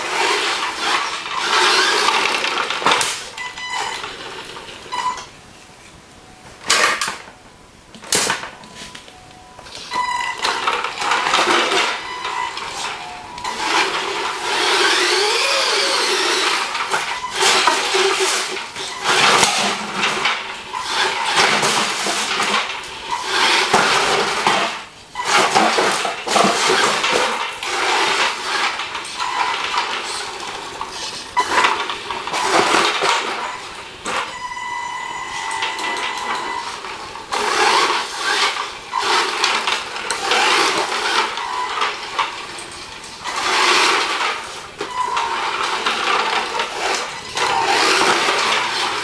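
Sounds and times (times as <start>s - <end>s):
toy truck electric motor whining: 0.0s - 5.2s, 9.7s - 49.0s
tyres rolling on tile floor: 0.0s - 5.4s, 8.0s - 49.0s.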